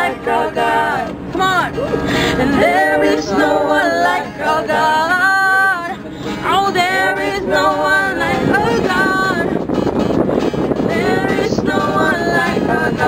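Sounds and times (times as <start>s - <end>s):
group singing worship song: 0.0s - 9.5s, 10.8s - 13.0s
van road and engine noise: 0.0s - 13.0s.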